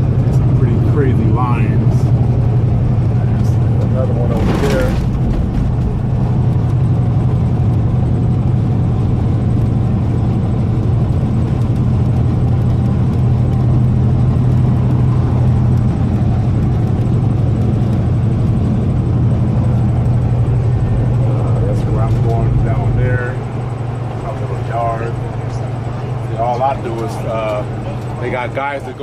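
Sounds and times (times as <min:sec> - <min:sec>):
diesel truck engine droning: 0:00.0 - 0:29.0
road noise: 0:00.0 - 0:29.0.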